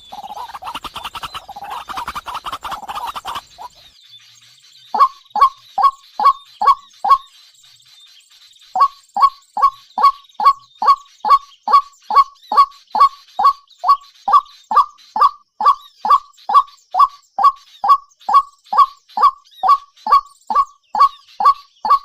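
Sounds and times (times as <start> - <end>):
bird calling: 0.0 - 4.0, 4.9 - 7.3, 8.8 - 22.0.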